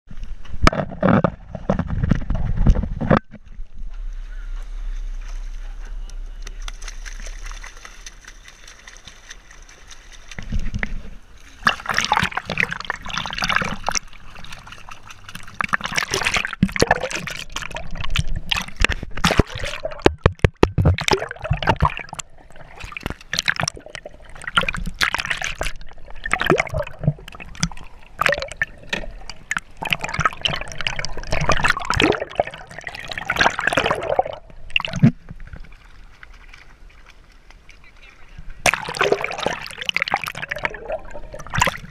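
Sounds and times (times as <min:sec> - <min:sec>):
sea water sloshing and gurgling: 0:00.6 - 0:41.9.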